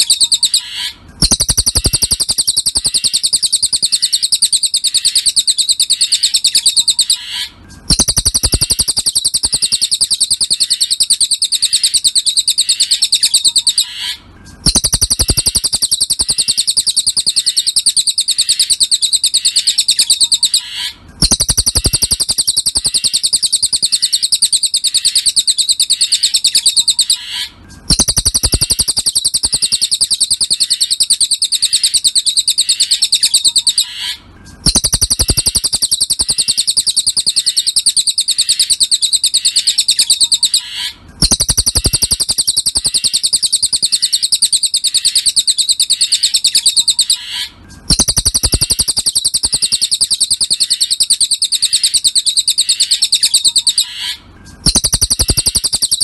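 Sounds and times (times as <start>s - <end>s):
bird high chirping notes: 0.0s - 56.0s.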